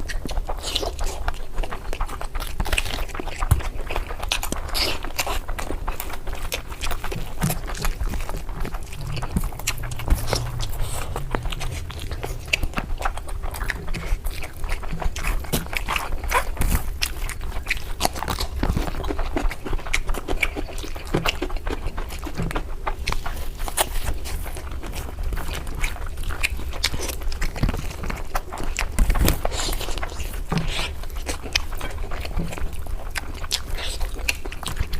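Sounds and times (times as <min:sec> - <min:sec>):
wet chewing and lip smacking: 0:00.0 - 0:34.9.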